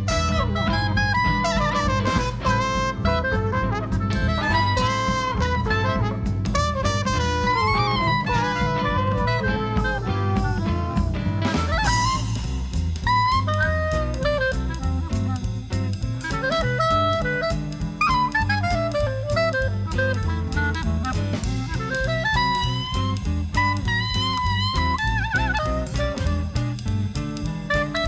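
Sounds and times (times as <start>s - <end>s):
bass line: 0.0s - 28.0s
drum kit hits: 0.0s - 28.0s
horn melody: 0.0s - 28.0s
jazz band playing: 0.0s - 28.0s.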